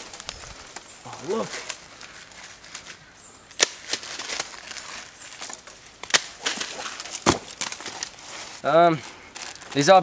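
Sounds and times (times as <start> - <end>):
twigs snapping and rustling: 0.0 - 10.0.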